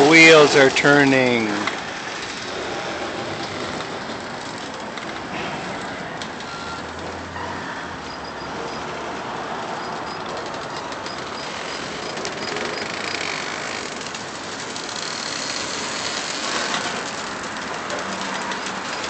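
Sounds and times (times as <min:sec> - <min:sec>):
steel wheels rumbling on rail: 0:01.6 - 0:19.0.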